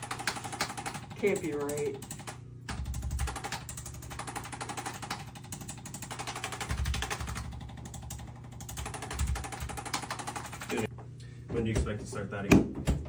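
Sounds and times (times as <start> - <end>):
rapid mechanical tapping: 0.0 - 10.9.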